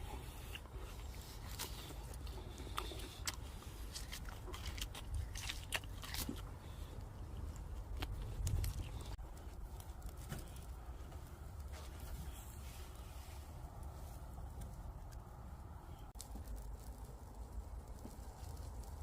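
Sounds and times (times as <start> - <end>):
person chewing ribs: 0.0 - 19.0.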